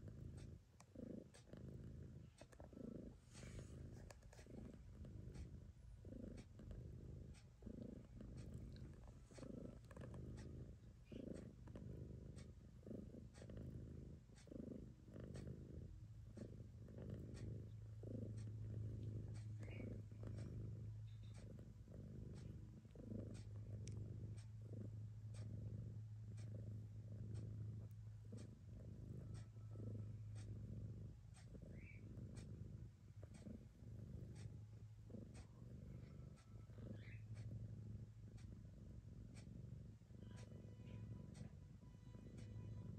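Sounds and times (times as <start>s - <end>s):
cat purring: 0.0s - 42.9s.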